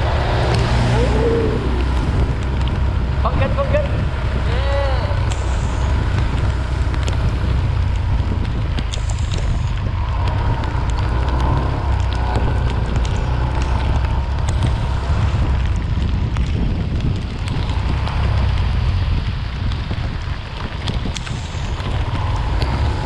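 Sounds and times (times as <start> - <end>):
heavy rain hissing: 0.0 - 23.0
raindrops ticking on camera: 0.0 - 23.0
wind buffeting microphone: 0.0 - 23.0.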